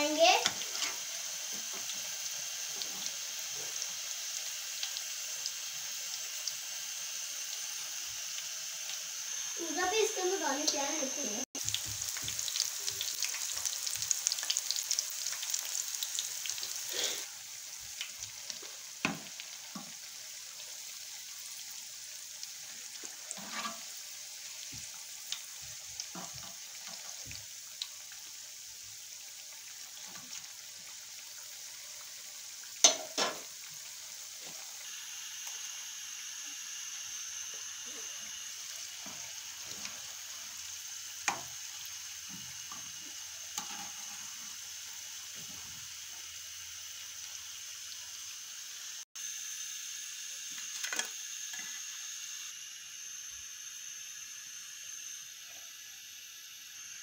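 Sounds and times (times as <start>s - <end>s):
deep-frying sizzle in hot oil: 0.0s - 57.0s.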